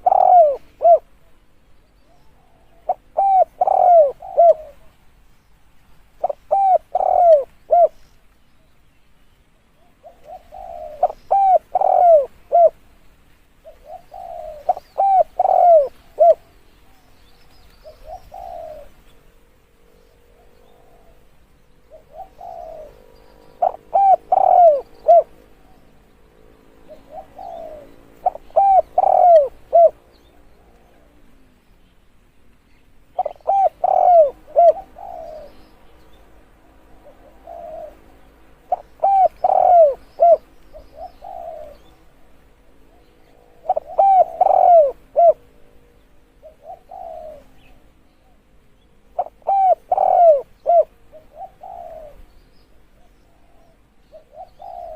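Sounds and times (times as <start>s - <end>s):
dove cooing: 0.0s - 5.0s, 6.2s - 8.1s, 9.8s - 12.9s, 13.6s - 19.4s, 20.1s - 26.1s, 26.8s - 31.6s, 33.1s - 36.0s, 36.9s - 54.9s.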